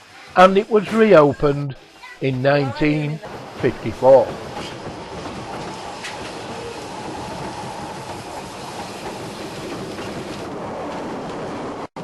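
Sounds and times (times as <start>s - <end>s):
train wheels rumbling on rail: 2.3s - 12.0s.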